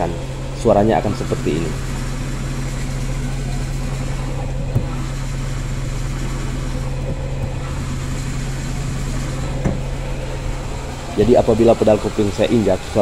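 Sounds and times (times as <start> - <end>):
car engine idling: 0.0 - 13.0
faint steady bearing squeal: 0.0 - 13.0.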